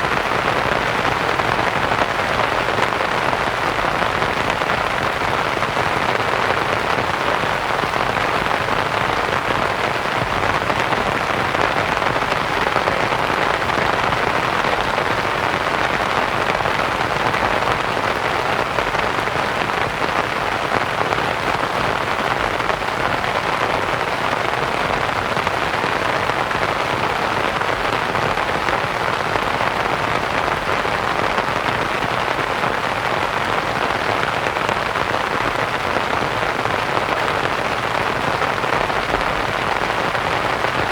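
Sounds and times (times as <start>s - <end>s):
rain on a canvas tent: 0.0s - 40.9s.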